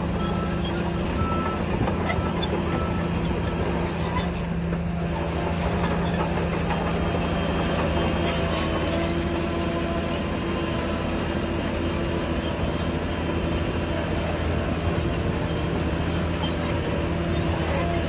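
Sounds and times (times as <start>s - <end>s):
bulldozer diesel engine humming: 0.0s - 18.0s
steel tracks clanking and squealing: 0.0s - 18.0s.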